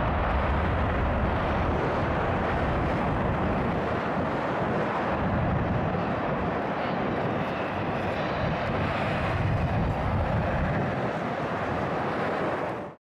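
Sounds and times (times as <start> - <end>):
fighter jet taking off in afterburner: 0.0 - 13.0.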